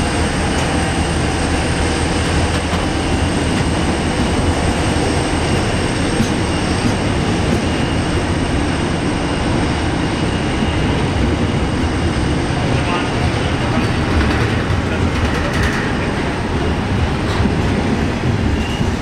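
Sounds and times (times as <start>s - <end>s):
train wagons rolling on rails: 0.0s - 19.0s.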